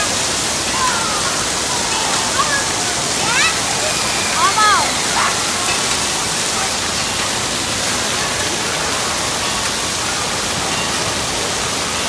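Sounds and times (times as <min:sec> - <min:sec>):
water spraying onto wet floor: 0:00.0 - 0:12.0.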